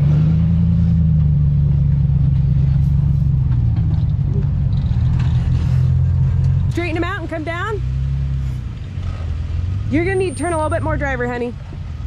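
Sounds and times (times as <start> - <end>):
pickup engine running low revs: 0.0 - 12.0.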